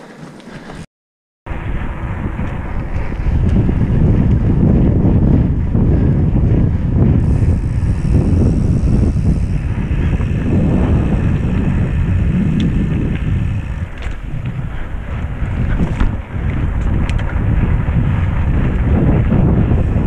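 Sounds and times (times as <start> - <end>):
bike tyres rolling on path: 0.0 - 0.8, 1.5 - 20.0
wind buffeting microphone: 1.5 - 20.0
bike clicks and rattles: 1.7 - 20.0.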